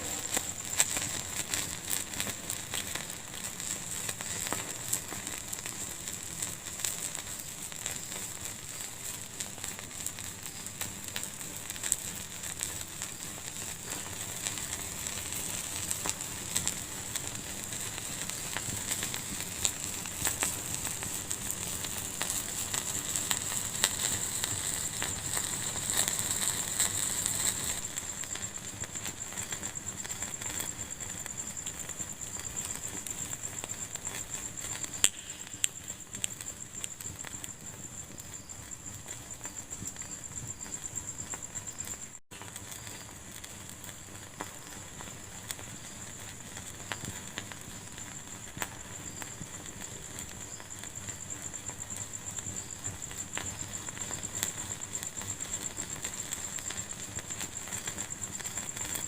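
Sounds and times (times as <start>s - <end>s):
fire hiss: 0.0s - 59.0s
fire popping and crackling: 0.0s - 59.0s.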